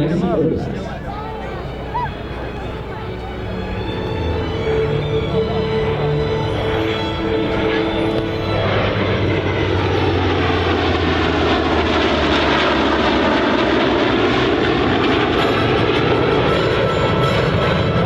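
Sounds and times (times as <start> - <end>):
loud jet roar: 0.0 - 18.0.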